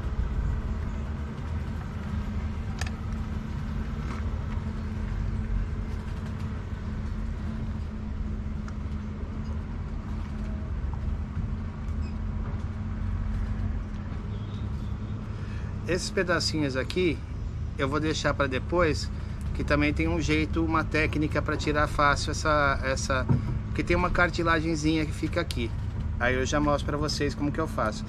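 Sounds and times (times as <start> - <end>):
faint hum: 0.0 - 28.0
low mechanical rumble: 0.0 - 28.0.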